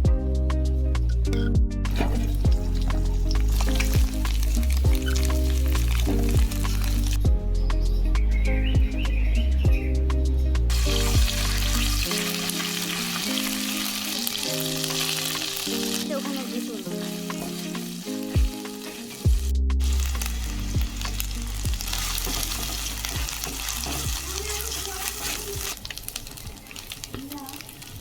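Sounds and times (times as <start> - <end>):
background music: 0.0 - 25.7
food sizzling in a pan: 1.9 - 7.2, 10.7 - 28.0.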